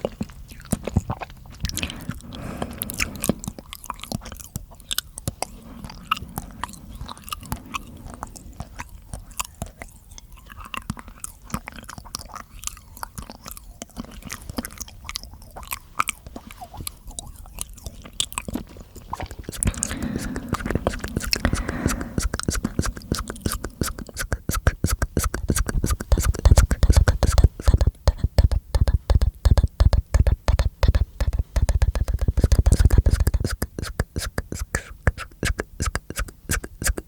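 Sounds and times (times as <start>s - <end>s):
wet mouth clicks and smacks: 0.0s - 37.0s.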